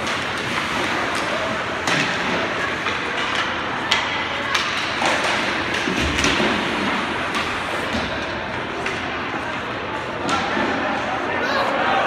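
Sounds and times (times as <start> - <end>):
hockey sticks and puck clacking: 0.0 - 11.9
echoing rink hubbub: 0.0 - 12.0.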